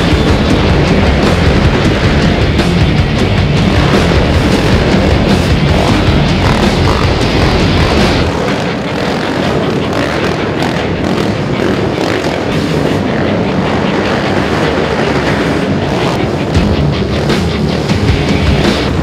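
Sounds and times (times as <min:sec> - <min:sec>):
background music: 0:00.0 - 0:19.0
quad engines revving: 0:00.0 - 0:19.0.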